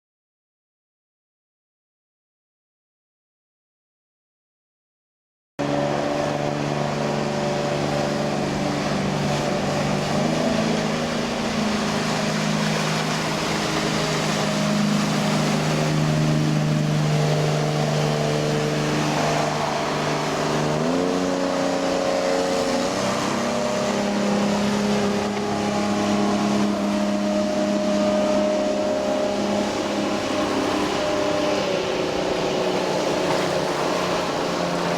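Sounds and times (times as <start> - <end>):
boat engine running: 5.6 - 34.9
rushing water: 5.6 - 34.9.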